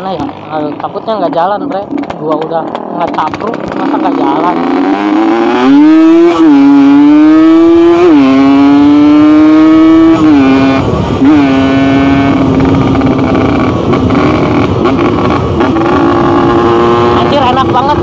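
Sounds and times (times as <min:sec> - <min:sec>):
motorcycle engine accelerating: 0:00.0 - 0:18.0
rushing road noise: 0:00.0 - 0:18.0.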